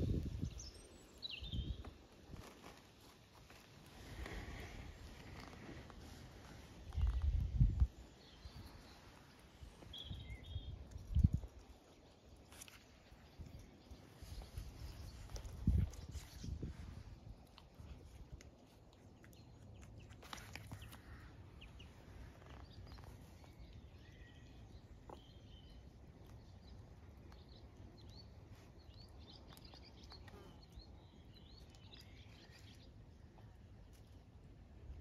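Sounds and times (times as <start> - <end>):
faint bird chirps: 0.0 - 2.8, 3.5 - 17.1, 19.2 - 34.1.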